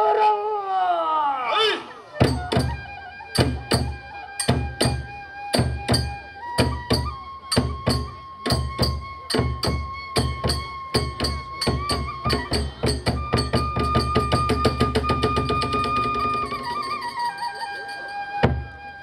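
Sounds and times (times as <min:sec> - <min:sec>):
bamboo flute long notes: 0:00.0 - 0:19.0
taiko drum: 0:02.2 - 0:17.2, 0:18.4 - 0:18.8.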